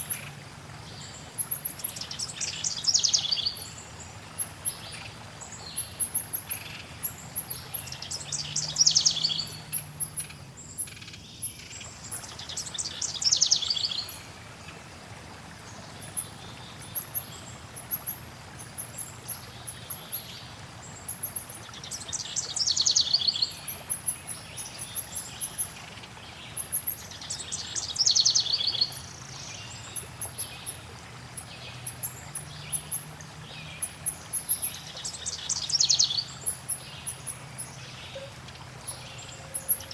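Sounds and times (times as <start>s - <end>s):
flowing water hiss: 0.0s - 39.9s.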